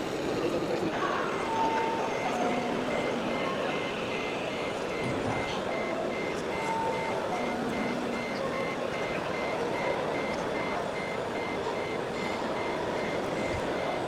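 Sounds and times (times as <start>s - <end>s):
reversing alarm beeping: 1.0s - 14.0s.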